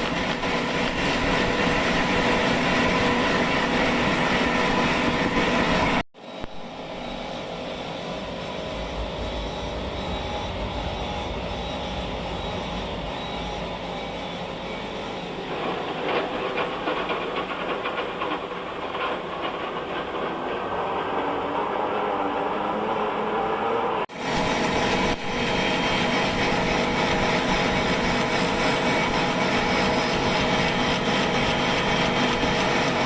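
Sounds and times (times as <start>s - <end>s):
sawmill machine humming: 0.0s - 33.0s.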